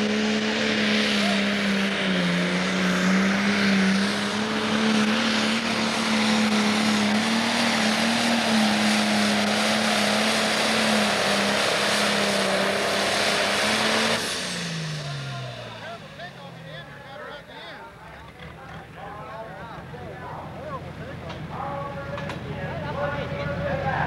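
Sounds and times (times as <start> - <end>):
diesel engine running at full load: 0.0 - 24.0.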